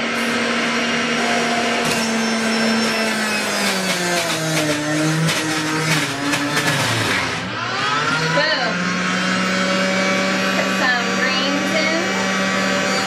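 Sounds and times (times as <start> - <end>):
juicer motor hum: 0.0 - 13.0
produce crunching in juicer: 1.8 - 13.0.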